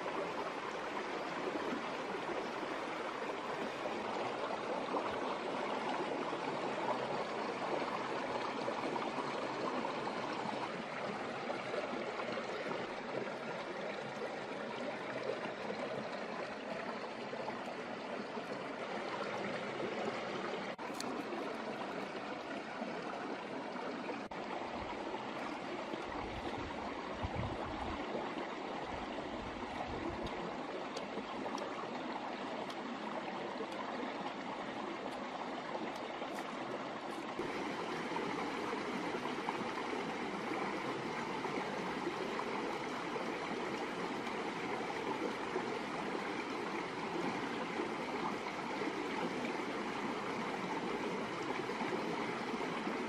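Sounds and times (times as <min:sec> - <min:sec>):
mountain stream rushing water: 0:00.0 - 0:53.0.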